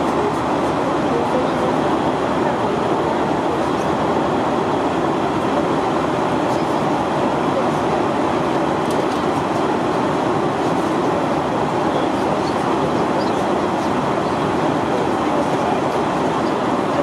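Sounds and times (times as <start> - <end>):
airplane cabin noise: 0.0 - 17.0.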